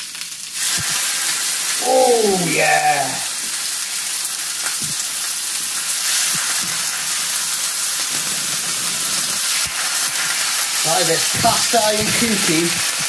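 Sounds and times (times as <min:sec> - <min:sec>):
steaks sizzling in a skillet: 0:00.0 - 0:13.0.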